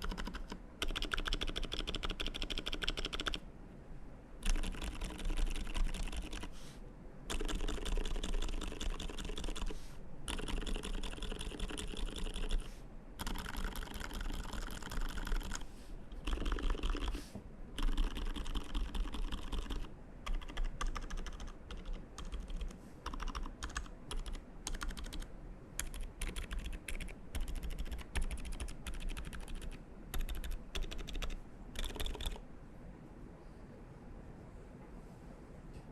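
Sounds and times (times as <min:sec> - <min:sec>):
mechanical keyboard typing: 0:00.0 - 0:03.4, 0:04.4 - 0:06.5, 0:07.3 - 0:17.2, 0:17.8 - 0:32.4.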